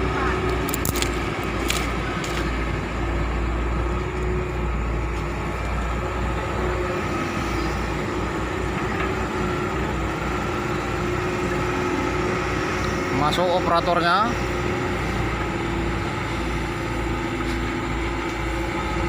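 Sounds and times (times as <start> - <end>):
excavator diesel engine drone: 0.0 - 19.0.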